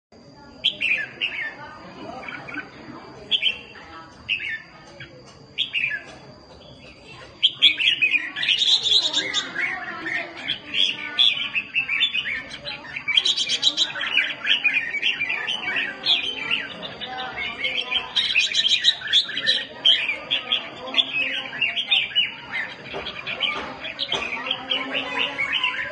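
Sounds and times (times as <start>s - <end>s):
bulbuls chattering calls: 0.2s - 25.9s.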